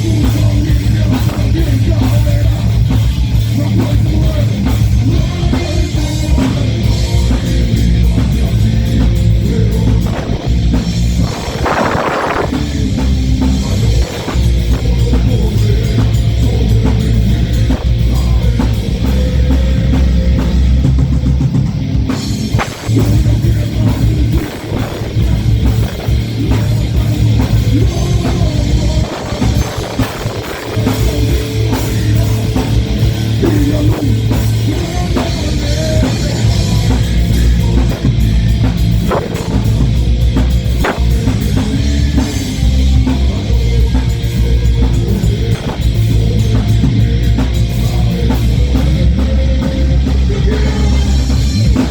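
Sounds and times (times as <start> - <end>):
live heavy metal band: 0.0 - 51.9.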